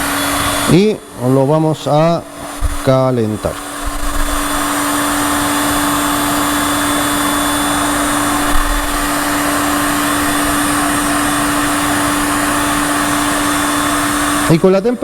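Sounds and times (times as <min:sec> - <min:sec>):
heat gun fan blowing: 0:00.0 - 0:15.0.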